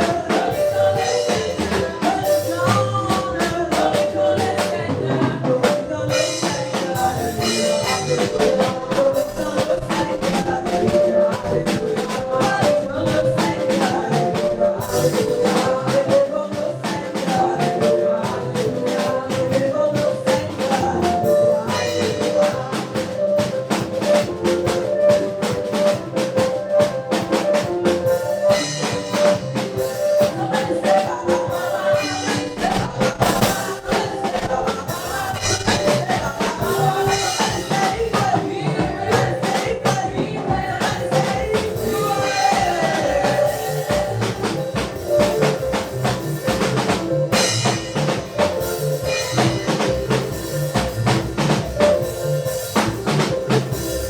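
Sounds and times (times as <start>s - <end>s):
choir singing: 0.0s - 24.4s, 27.9s - 54.0s
drum kit beat: 0.0s - 54.0s.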